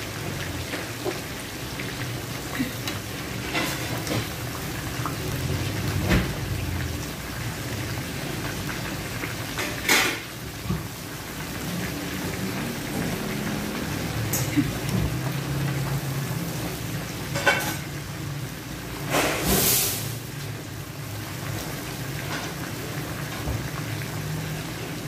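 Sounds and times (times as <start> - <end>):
shrimp sizzling in hot oil: 0.0 - 25.0.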